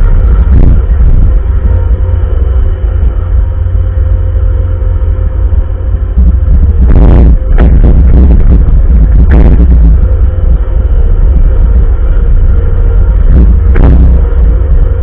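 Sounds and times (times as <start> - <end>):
diesel engine rumble: 0.0 - 15.0
faint steady whine: 0.0 - 15.0
rushing noise: 0.0 - 15.0.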